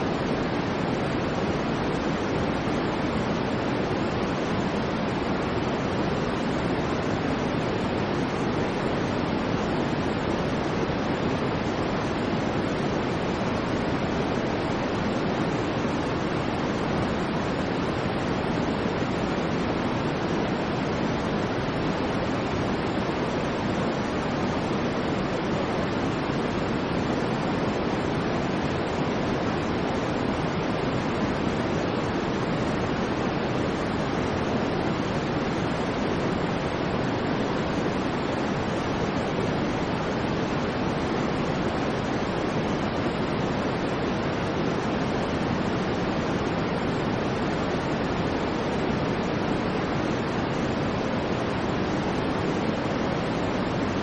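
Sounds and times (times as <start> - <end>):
deep white noise rush: 0.0 - 54.0.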